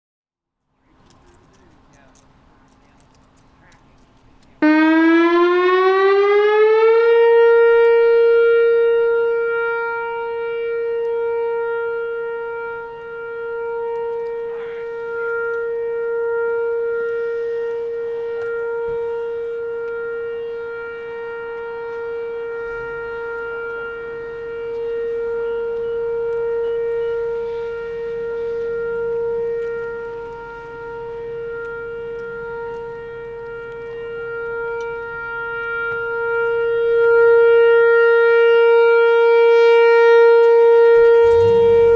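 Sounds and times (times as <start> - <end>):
warning siren steady tone: 0.9 - 41.9.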